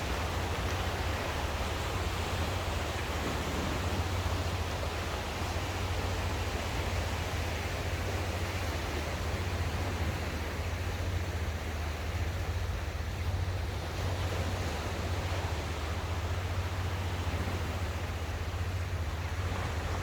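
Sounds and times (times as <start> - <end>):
sea waves washing on shore: 0.0 - 20.0.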